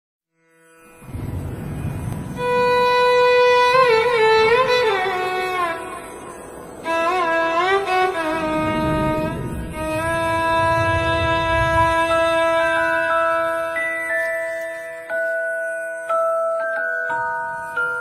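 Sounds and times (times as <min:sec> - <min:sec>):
ornamented melody line: 0:00.5 - 0:18.0.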